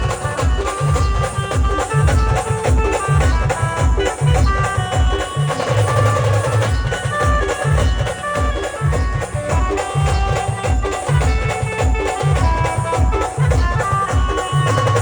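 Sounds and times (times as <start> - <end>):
live band melody: 0.0 - 15.0
steady drum beat: 0.0 - 15.0.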